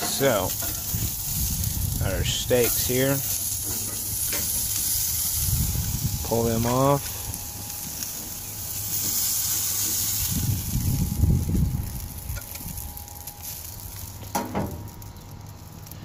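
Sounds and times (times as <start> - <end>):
low rumble: 0.0 - 16.0
steak sizzling on grill: 0.0 - 16.0.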